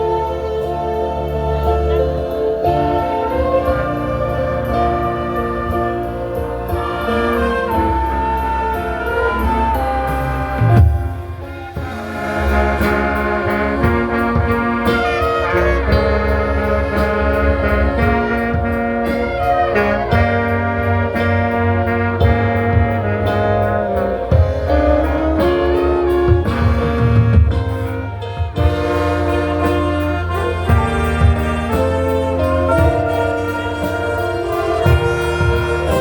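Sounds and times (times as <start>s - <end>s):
orchestra playing: 0.0s - 36.0s.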